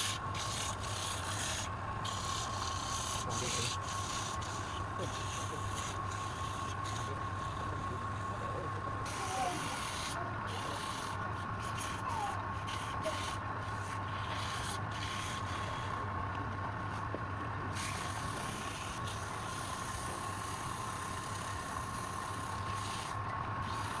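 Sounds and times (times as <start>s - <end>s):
woodturning lathe running: 0.0s - 24.0s.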